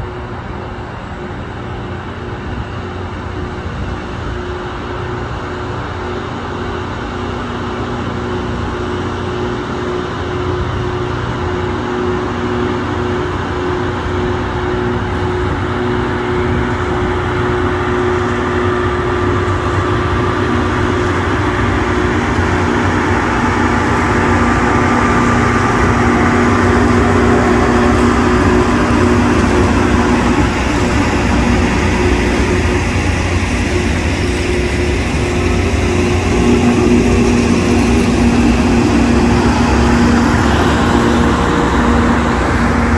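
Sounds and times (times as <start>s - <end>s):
rail train diesel hum: 0.0s - 42.9s.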